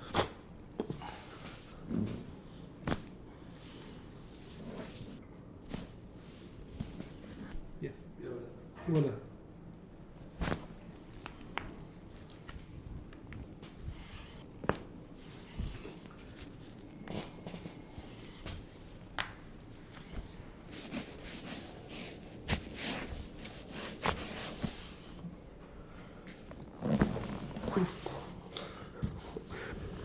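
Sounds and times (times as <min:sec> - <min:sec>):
shuffling and rustling: 0:00.6 - 0:07.8, 0:10.0 - 0:25.7, 0:26.3 - 0:30.0.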